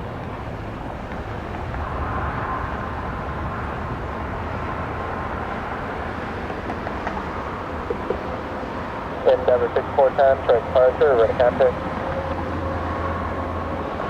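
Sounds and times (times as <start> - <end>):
faint high engine whine: 0.0 - 14.0
jet engines rumbling: 0.0 - 14.0.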